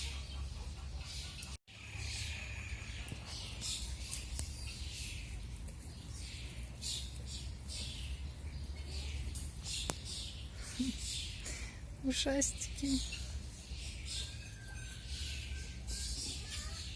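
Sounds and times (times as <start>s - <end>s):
songbirds chirping and singing: 0.0s - 16.9s.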